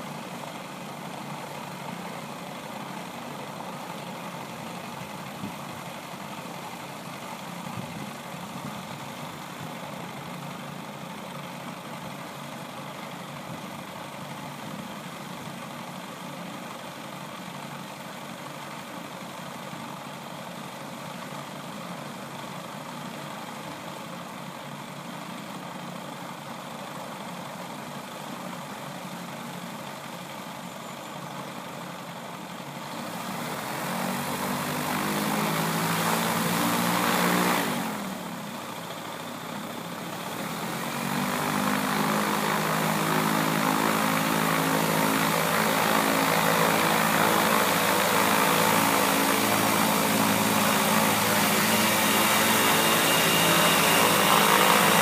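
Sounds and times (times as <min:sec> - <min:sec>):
gyroplane engine and propeller: 0:00.0 - 0:55.0.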